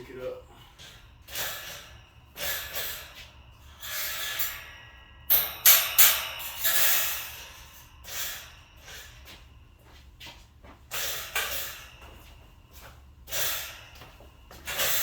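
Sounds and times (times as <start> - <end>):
metal rack rustling and scraping: 0.0 - 9.6, 10.2 - 15.0.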